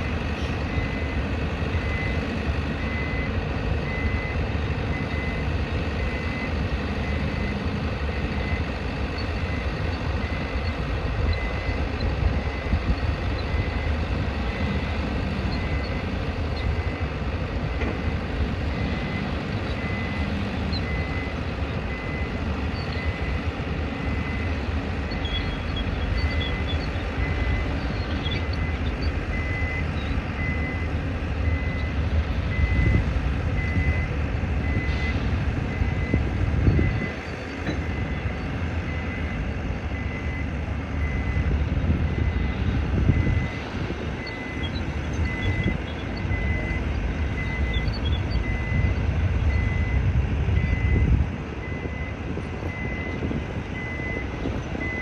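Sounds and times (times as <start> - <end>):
construction site noise: 0.0 - 55.0
heavy engines rumbling: 0.0 - 55.0
reversing alarm beeping: 0.0 - 55.0.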